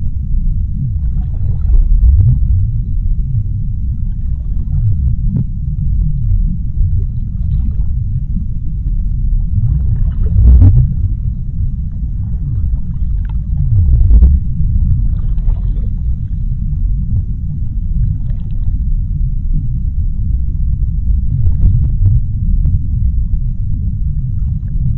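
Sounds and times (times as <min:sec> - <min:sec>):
deep underwater rumble: 0:00.0 - 0:24.9.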